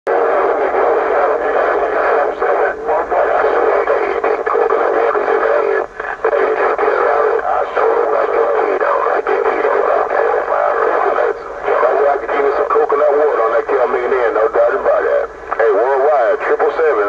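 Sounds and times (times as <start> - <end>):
garbled radio voices: 0.1 - 17.0
radio static: 0.1 - 17.0.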